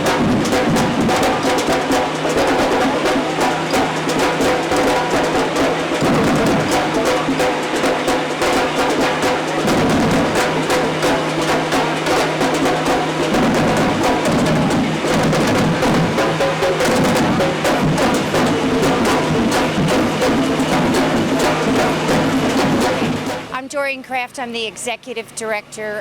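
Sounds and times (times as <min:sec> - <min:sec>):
drums and percussion: 0:00.0 - 0:24.9.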